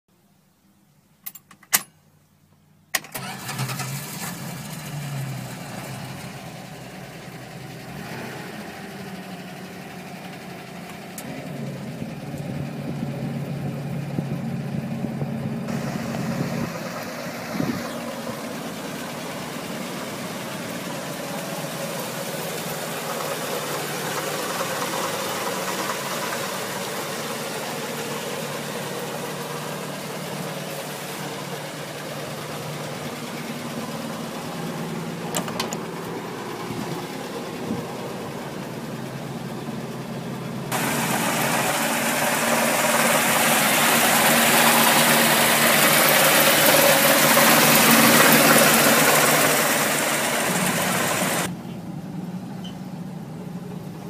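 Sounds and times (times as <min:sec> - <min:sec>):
car engine idling: 0:02.1 - 0:54.0.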